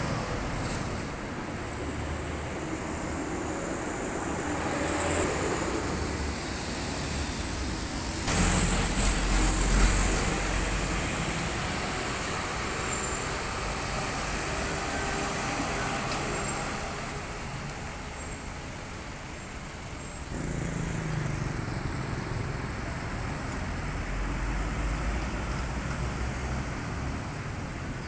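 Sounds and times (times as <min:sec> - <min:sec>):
deep heavy engine: 0:00.0 - 0:28.0
road traffic rushing: 0:00.0 - 0:28.0.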